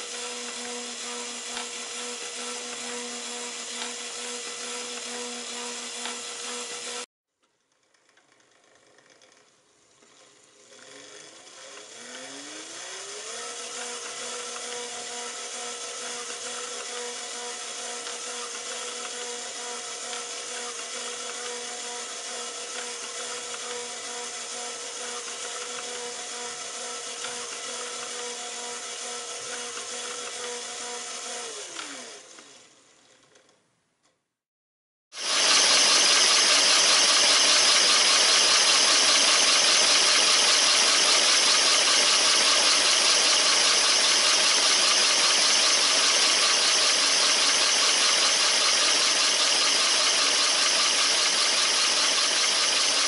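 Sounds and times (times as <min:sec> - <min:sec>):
vacuum cleaner motor whining: 0:00.0 - 0:07.1, 0:10.7 - 0:32.7, 0:35.2 - 0:53.0.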